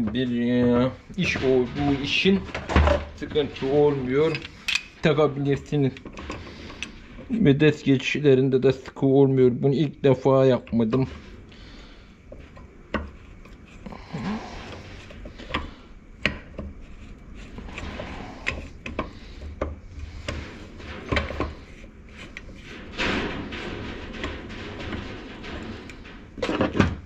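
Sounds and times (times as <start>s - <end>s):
metal scraping: 0.0s - 9.5s, 10.2s - 27.0s.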